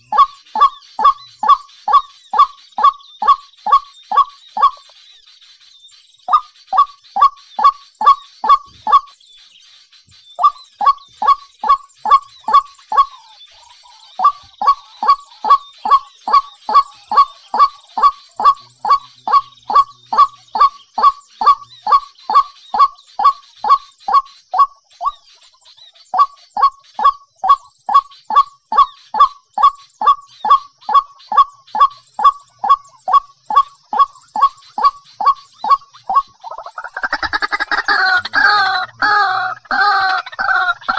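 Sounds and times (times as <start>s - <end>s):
bird calling: 0.0s - 40.9s.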